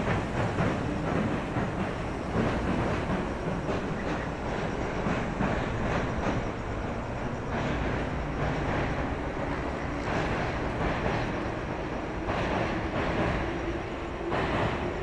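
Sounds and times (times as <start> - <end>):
electric train rumbling on bridge: 0.0 - 15.0
train wheels clattering on joints: 0.0 - 15.0.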